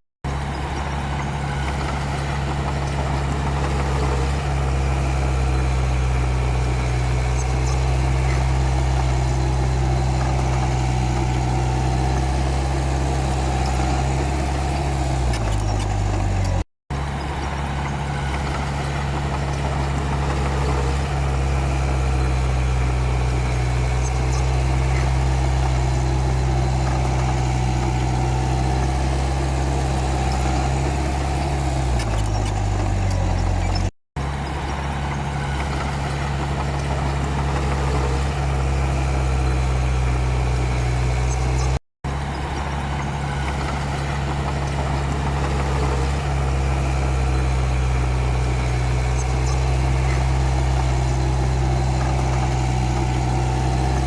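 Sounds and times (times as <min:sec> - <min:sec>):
bulldozer diesel engine running: 0:00.2 - 0:54.0.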